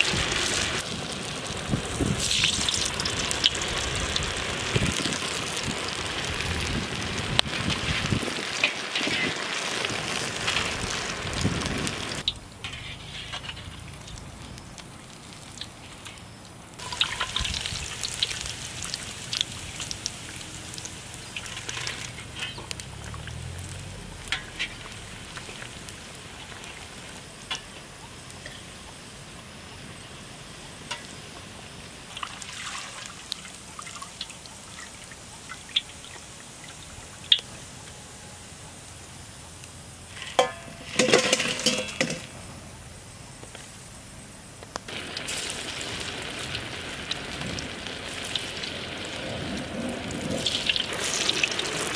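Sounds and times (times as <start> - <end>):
deep-frying sizzle with pops: 0.0 - 51.9.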